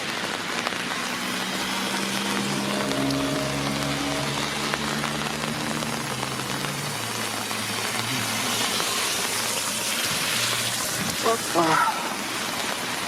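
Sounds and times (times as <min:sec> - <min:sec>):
rain falling on road: 0:00.0 - 0:13.0.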